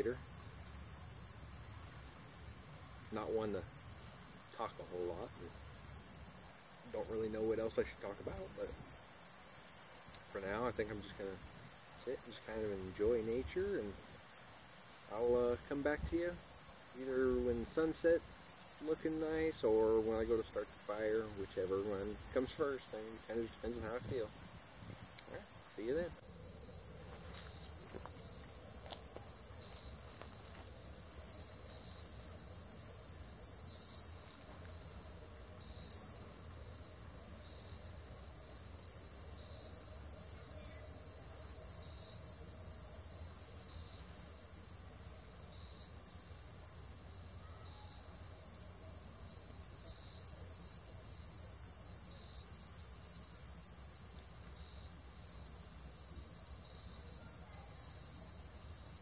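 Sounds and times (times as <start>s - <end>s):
insect trill: 0.0s - 59.0s
pulsing insect chirp: 0.0s - 59.0s.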